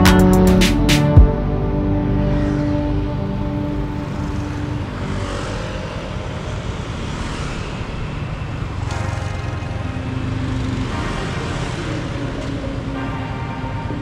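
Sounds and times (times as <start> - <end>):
other vehicle engine hum: 0.0 - 14.0
motorbike engine and road rumble: 1.3 - 14.0.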